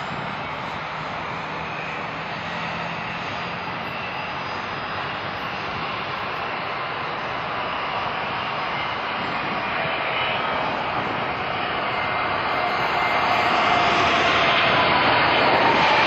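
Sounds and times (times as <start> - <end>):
jet aircraft rushing noise: 0.0 - 16.0.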